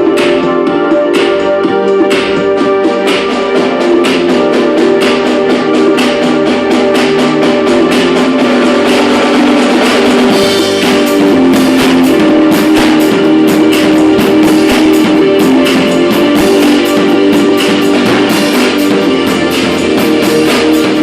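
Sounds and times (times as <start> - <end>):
drum kit beat: 0.0 - 21.0
held guitar-like notes: 0.0 - 21.0
loud dance music: 0.0 - 21.0.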